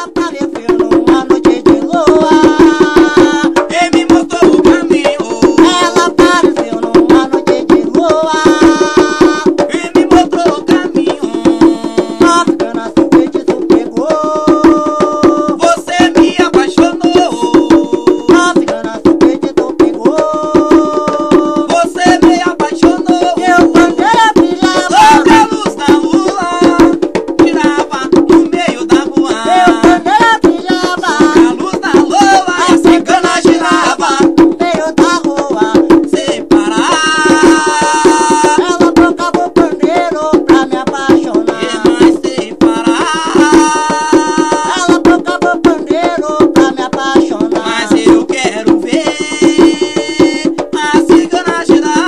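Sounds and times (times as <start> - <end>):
fast hand percussion with rattles: 0.0 - 52.0
person singing: 0.0 - 52.0.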